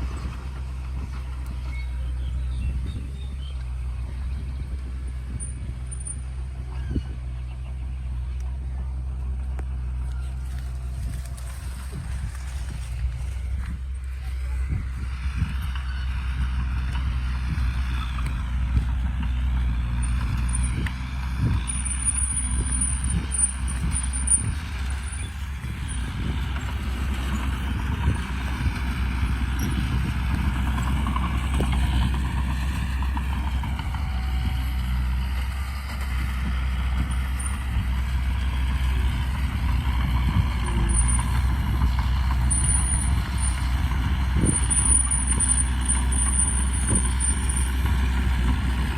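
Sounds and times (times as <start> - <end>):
diesel machinery running: 0.0 - 48.9.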